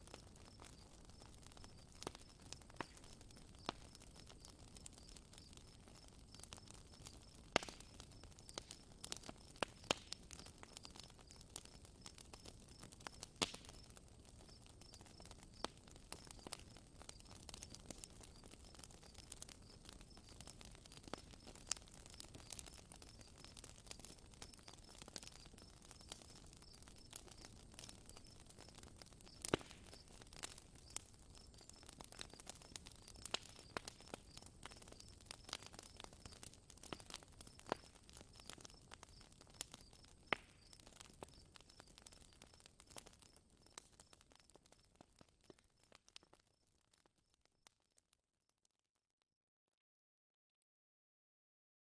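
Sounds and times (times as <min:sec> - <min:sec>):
campfire crackling: 0:00.0 - 0:47.8.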